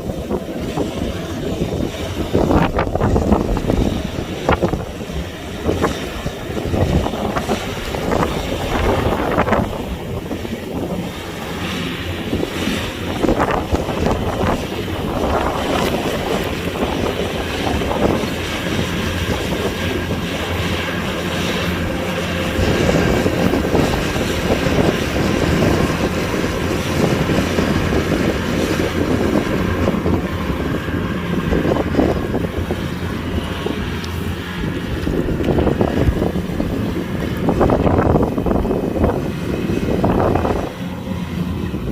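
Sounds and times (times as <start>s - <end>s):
combine harvester running: 0.0s - 41.9s.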